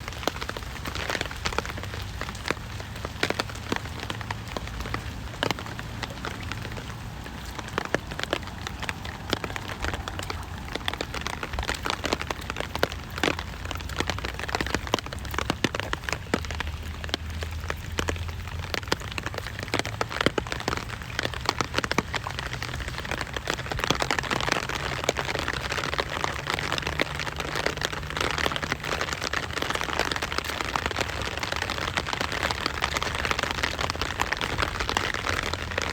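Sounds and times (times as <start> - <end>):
rain on a hard surface: 0.0 - 35.9.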